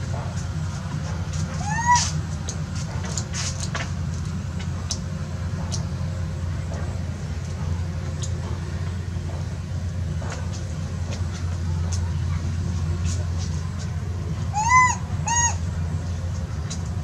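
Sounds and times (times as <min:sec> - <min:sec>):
engine idling rumble: 0:00.0 - 0:17.0.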